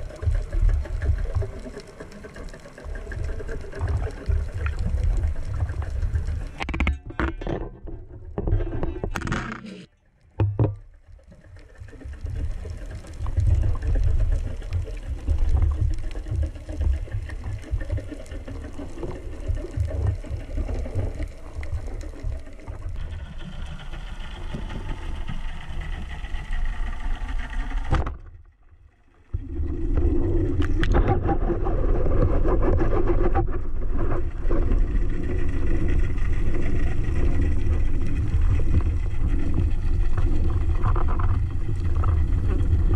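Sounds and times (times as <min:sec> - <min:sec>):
muffled underwater rumble: 0:00.0 - 0:42.9.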